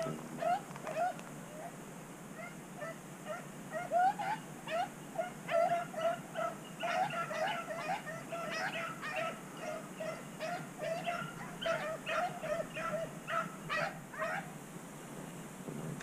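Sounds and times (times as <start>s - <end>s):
hounds baying: 0.0s - 1.8s, 2.4s - 14.6s.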